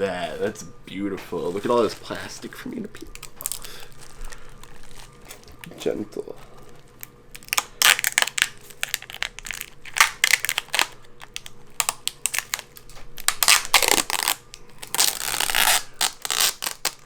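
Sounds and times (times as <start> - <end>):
plastic film crinkling: 1.2 - 17.0.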